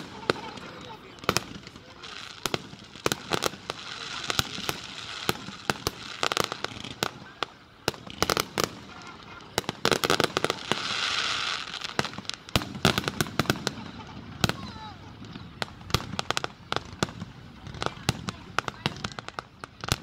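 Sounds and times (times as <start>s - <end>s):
fireworks bursting with sharp bangs: 0.0s - 20.0s
fireworks hissing crackle: 0.0s - 20.0s.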